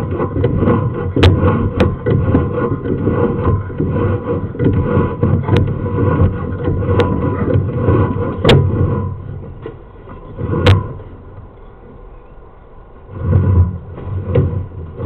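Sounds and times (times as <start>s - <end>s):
cable scraping through pipe: 0.0s - 12.0s, 12.8s - 15.0s.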